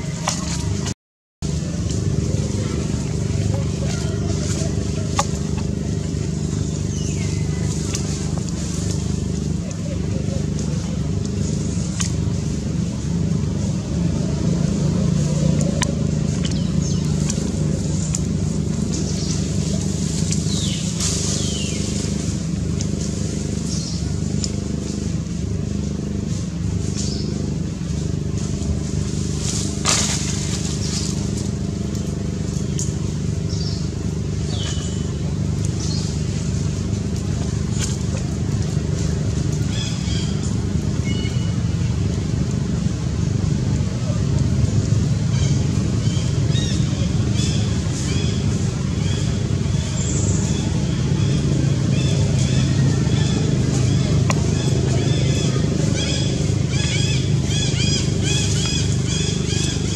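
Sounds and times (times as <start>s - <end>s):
engine idling hum: 0.0s - 59.9s
low background rumble: 0.0s - 59.9s.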